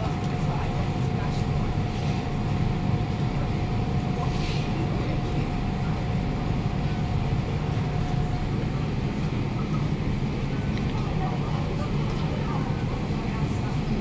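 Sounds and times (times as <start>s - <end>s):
train cabin rumble: 0.0s - 14.0s.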